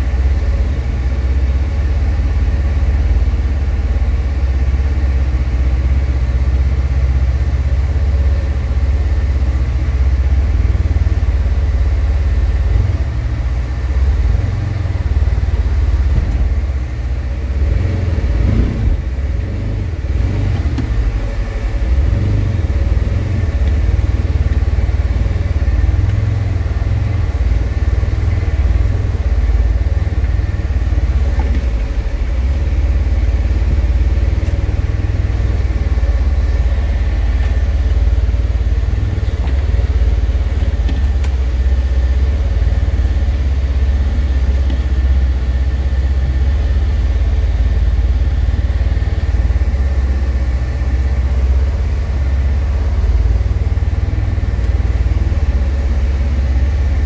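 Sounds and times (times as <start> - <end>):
utv engine running: 0.0 - 57.0.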